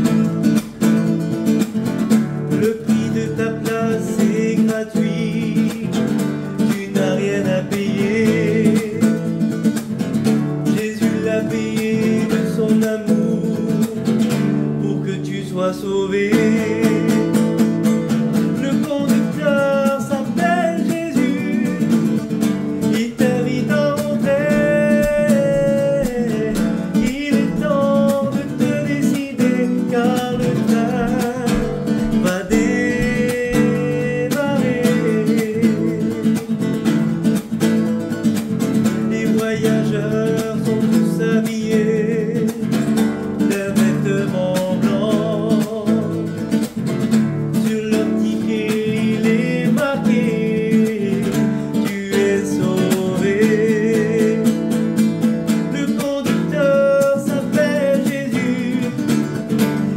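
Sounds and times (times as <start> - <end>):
strummed classical guitar: 0.0 - 59.9
man singing a hymn: 2.5 - 9.4, 10.6 - 36.5, 38.9 - 42.6, 43.4 - 46.3, 47.6 - 54.8, 55.6 - 59.9.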